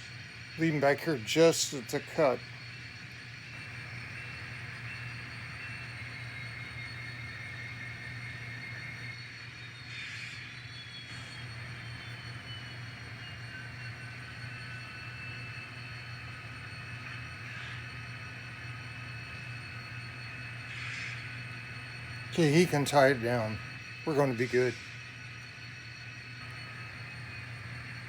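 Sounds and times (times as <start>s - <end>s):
model locomotive hum and whine: 0.0s - 28.0s.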